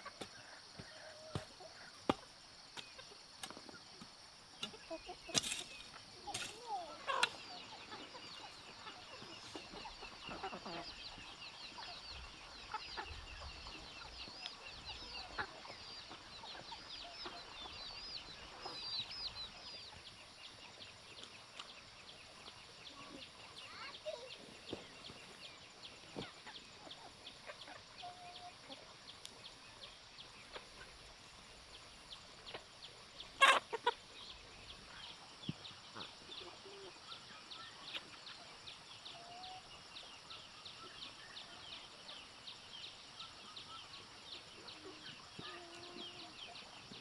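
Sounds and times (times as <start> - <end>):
chickens clucking: 0.0 - 47.0
faint high insect drone: 0.0 - 47.0.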